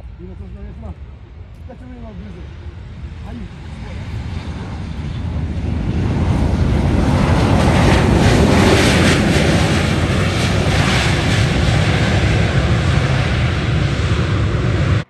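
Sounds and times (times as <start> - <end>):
jet engines roaring at takeoff: 0.0 - 15.0.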